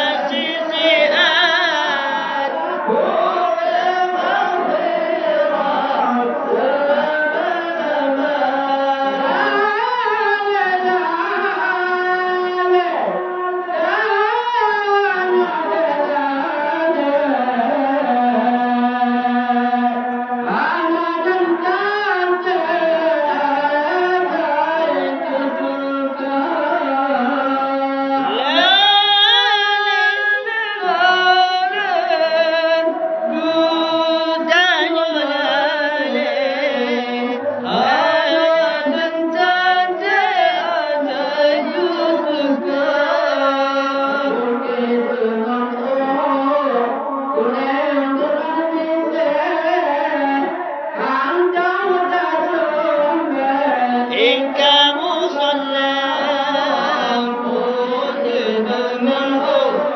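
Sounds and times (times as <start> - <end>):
person singing with sliding pitch: 0.0 - 59.9.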